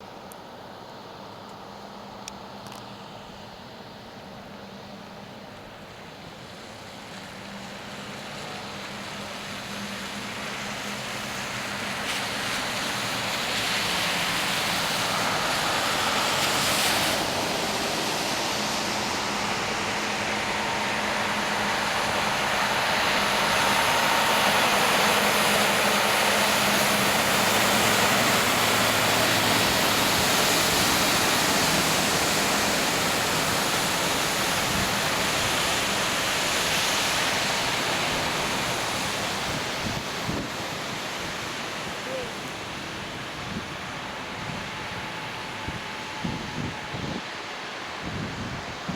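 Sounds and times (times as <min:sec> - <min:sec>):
heavy vehicle engine hum: 0:00.0 - 0:48.9
tyre and road rush: 0:05.0 - 0:48.9.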